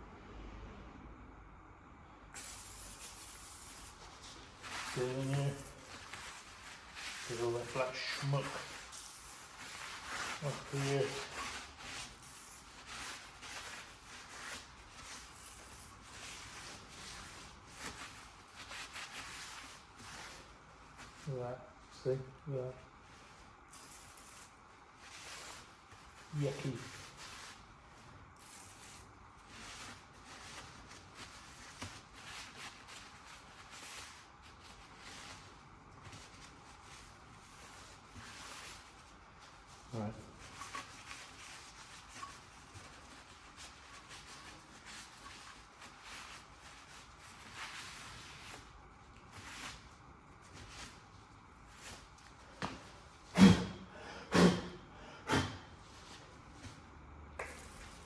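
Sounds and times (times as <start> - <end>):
tissue wiping steel wheel: 2.5 - 22.2, 23.0 - 52.2.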